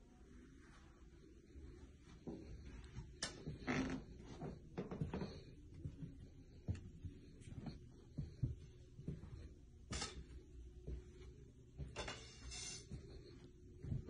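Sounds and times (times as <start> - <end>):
low room hum: 0.0 - 14.0
footsteps on hard floor: 2.1 - 14.0.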